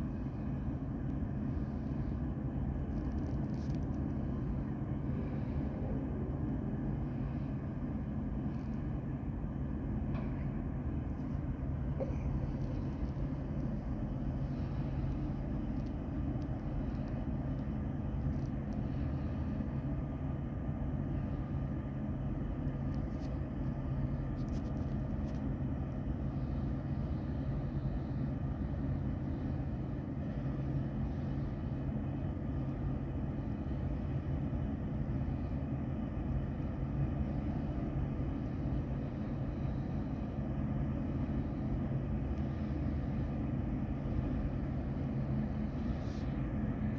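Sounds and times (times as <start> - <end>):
ship diesel engines droning: 0.0 - 46.9.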